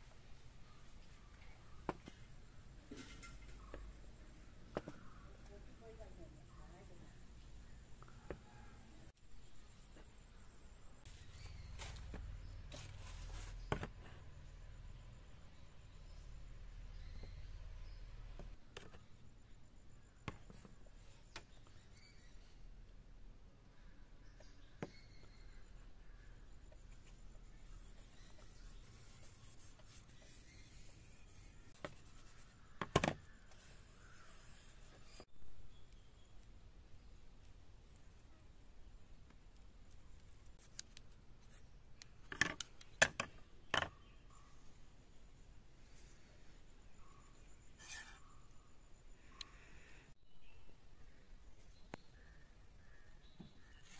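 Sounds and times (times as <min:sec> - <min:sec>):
faint bird chirps: 0:00.0 - 0:53.9.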